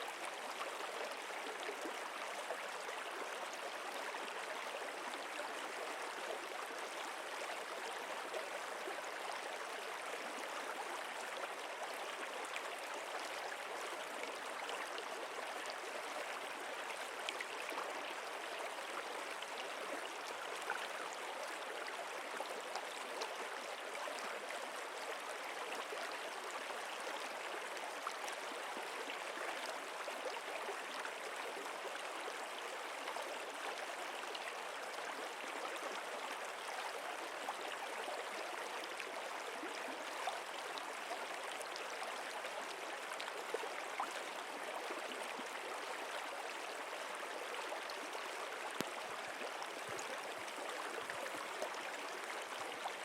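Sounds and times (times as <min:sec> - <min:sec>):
stream water gurgling: 0:00.0 - 0:53.0.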